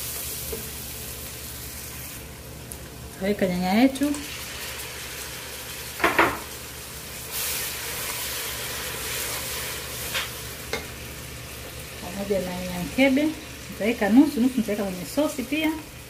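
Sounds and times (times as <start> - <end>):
oil and spices sizzling in a pot: 0.0 - 16.0.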